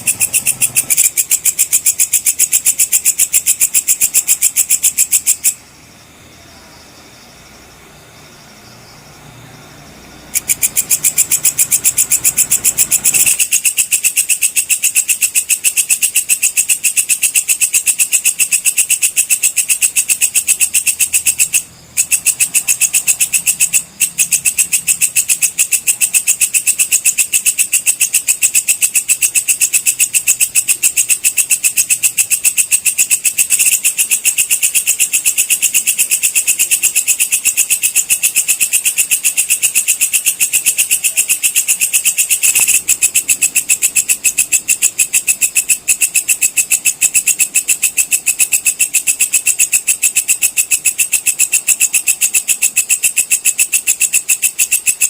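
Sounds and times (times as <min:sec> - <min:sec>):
insect shrill chirping: 0:00.0 - 0:55.0.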